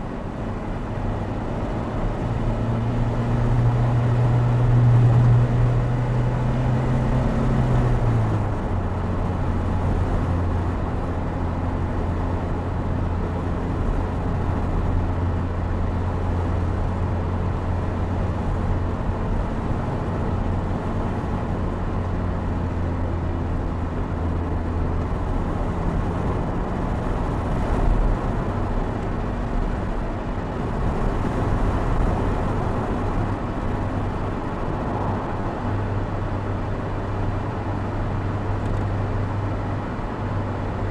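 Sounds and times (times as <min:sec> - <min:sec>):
car engine running: 0:00.0 - 0:40.9
tyre and road noise: 0:00.0 - 0:40.9.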